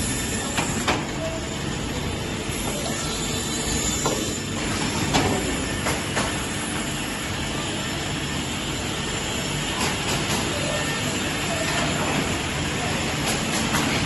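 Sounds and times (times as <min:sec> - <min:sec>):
circular saw machine running: 0:00.0 - 0:14.0.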